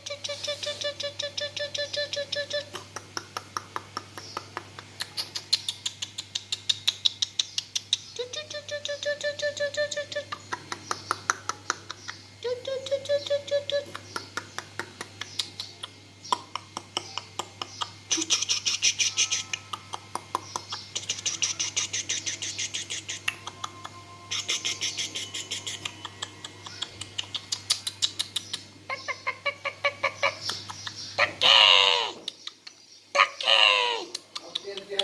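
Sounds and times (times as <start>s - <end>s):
bird-like chattering and chirps: 0.0s - 35.0s.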